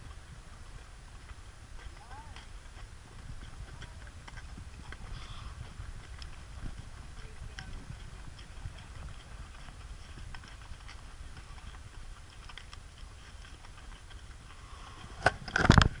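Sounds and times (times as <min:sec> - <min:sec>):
hooves clopping on rocky trail: 0:00.0 - 0:16.0
low rumble: 0:00.0 - 0:16.0.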